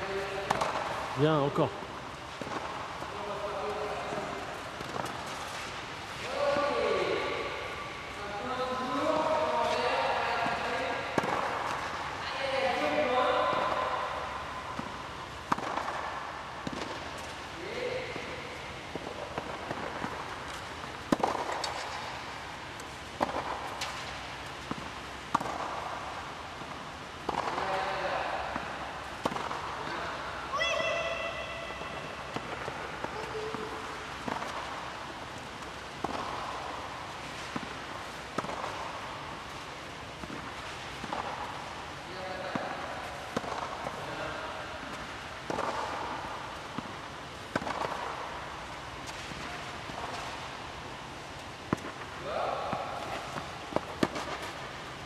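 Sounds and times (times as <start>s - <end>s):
tennis ball bouncing on court: 0.2s - 1.2s, 1.9s - 5.8s, 9.0s - 55.0s
tennis ball hit with racket: 0.2s - 1.2s, 2.3s - 5.8s, 9.1s - 12.1s, 12.7s - 17.5s, 18.1s - 30.0s, 30.8s - 55.0s.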